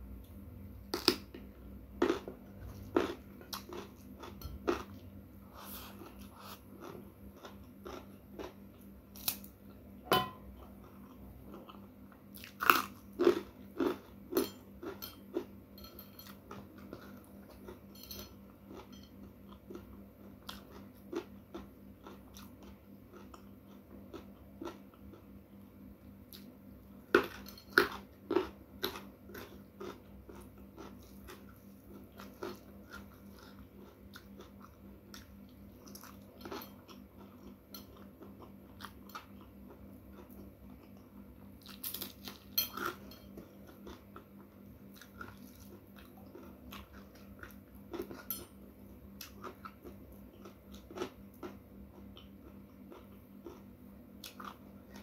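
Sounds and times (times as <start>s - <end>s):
person chewing crunchy food: 0.8s - 25.6s, 26.3s - 55.0s.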